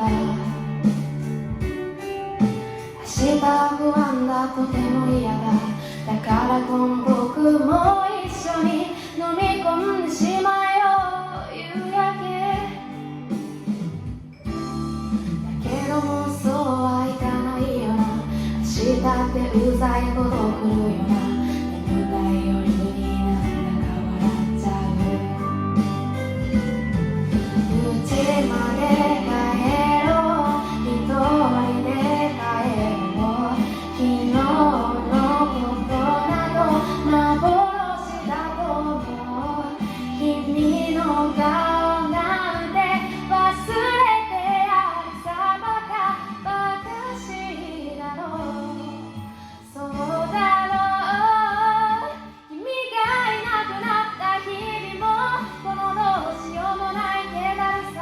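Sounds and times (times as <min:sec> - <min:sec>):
backing music: 0:00.0 - 0:58.0
woman singing pop song: 0:00.0 - 0:58.0.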